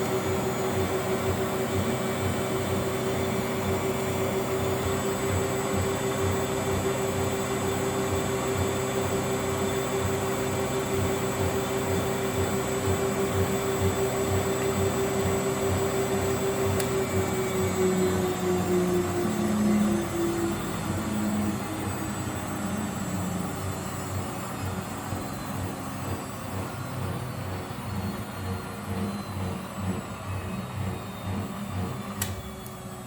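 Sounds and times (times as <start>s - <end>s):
washing machine drum spinning: 0.1s - 33.0s.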